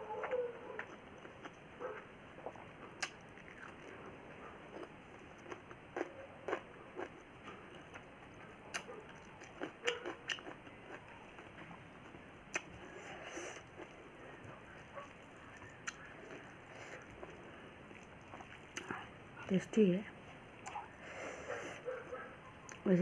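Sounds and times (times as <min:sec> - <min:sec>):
person chewing food: 0:00.2 - 0:19.2, 0:20.5 - 0:22.1.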